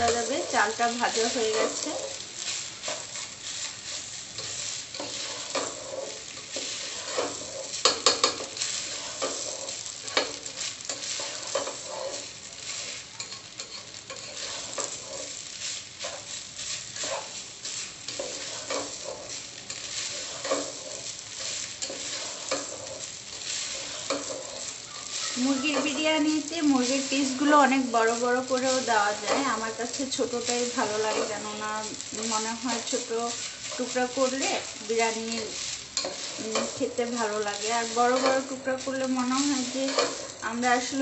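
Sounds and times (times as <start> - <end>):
steady sizzle: 0.0 - 41.0
spatula scraping rice in a pot: 0.1 - 41.0.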